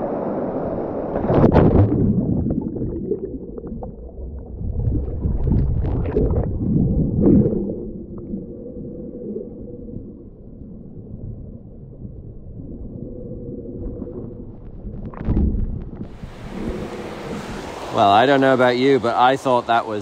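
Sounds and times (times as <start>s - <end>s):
underwater bubbles and gurgling: 1.0s - 17.8s.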